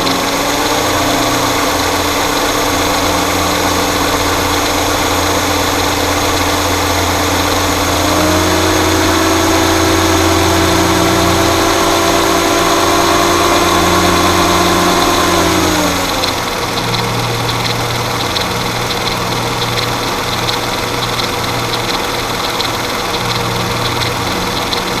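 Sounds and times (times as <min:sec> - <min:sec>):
car engine revving and idling: 0:00.0 - 0:25.0
fast even engine rattle: 0:00.0 - 0:25.0.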